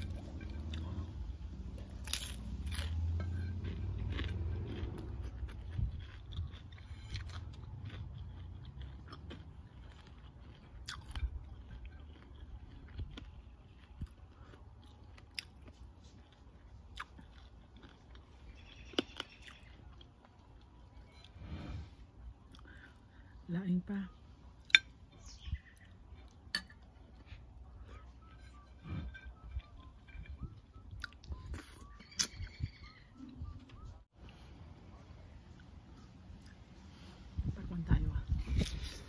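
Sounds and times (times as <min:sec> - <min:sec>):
person chewing food: 0:00.0 - 0:37.3.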